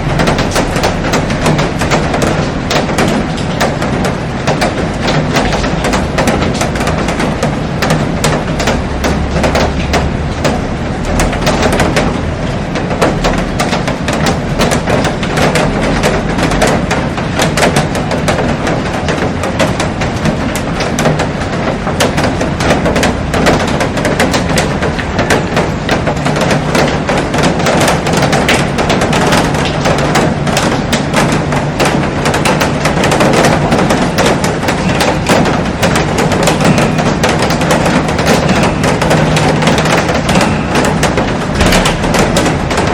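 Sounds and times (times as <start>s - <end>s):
heavy rain falling: 0.0s - 42.9s
raindrops tapping on glass: 0.0s - 42.9s.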